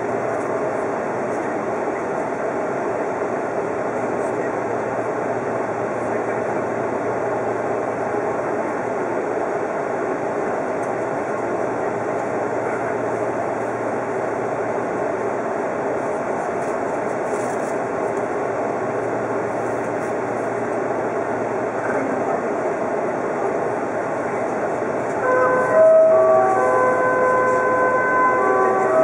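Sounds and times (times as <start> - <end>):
train equipment hum and hiss: 0.0 - 29.0.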